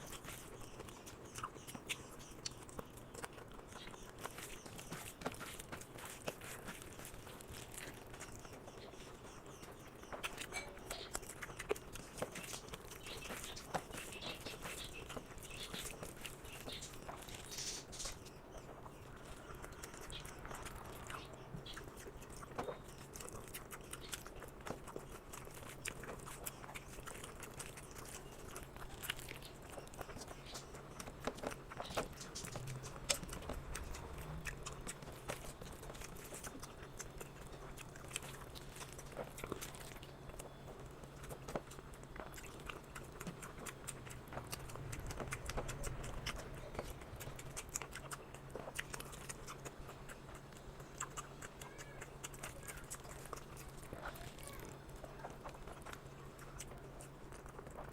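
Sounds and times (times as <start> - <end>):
wet chewing: 0.0 - 57.9.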